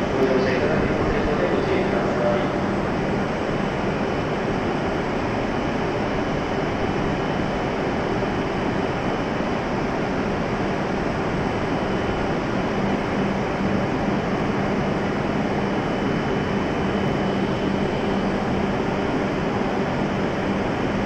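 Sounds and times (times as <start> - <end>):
stationary train hum: 0.0 - 21.0.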